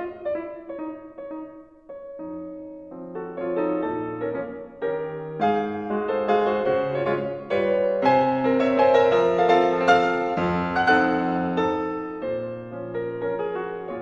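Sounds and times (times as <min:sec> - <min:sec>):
instrumental music with held notes: 0:00.0 - 0:14.0.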